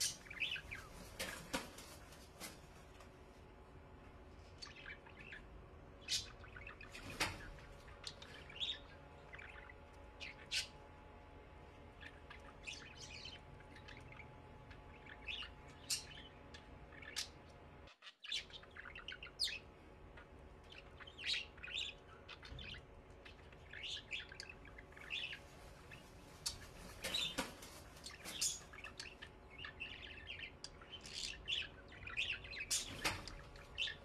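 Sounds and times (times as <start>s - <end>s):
cage birds chirping: 0.0s - 34.0s
faint steady hum: 0.0s - 34.0s.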